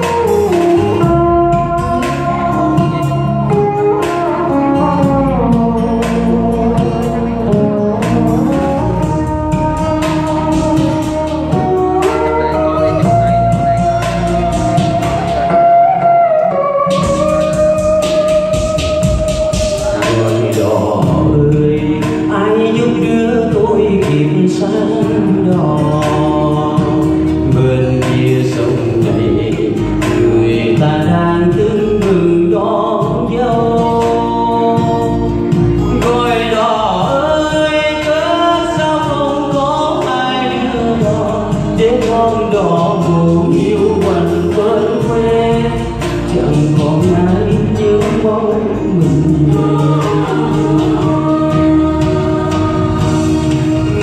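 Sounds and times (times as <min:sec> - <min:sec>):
instrumental accompaniment: 0:00.0 - 0:54.0
man singing into a microphone: 0:00.0 - 0:54.0.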